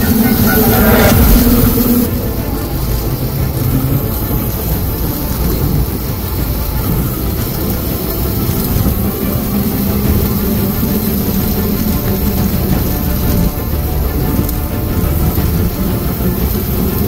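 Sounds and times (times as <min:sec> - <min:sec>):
wind and tyre noise: 0:00.0 - 0:17.0.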